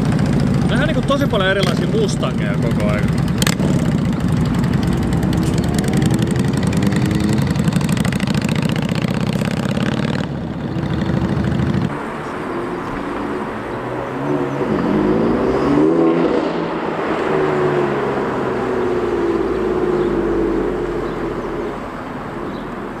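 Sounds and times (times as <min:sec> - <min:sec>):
car engine revving: 0:00.0 - 0:23.0
car engine rumbling accelerating: 0:00.0 - 0:23.0.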